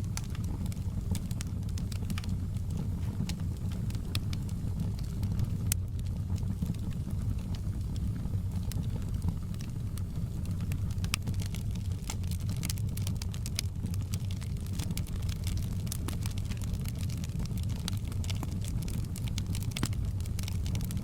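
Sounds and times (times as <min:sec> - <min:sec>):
low rumble of burning fire: 0:00.0 - 0:21.0
wood fire popping and snapping: 0:00.0 - 0:21.0.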